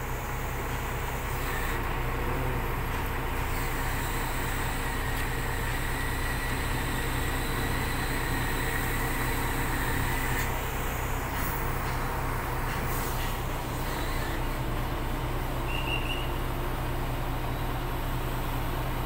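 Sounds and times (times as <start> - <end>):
crane engine running: 0.0 - 19.0.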